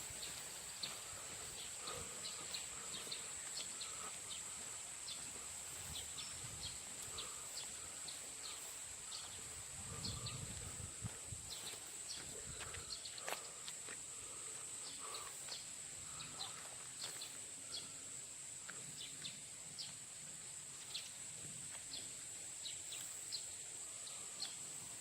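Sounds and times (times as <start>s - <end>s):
high insect chirps: 0.0s - 25.0s
insects buzzing: 0.0s - 25.0s.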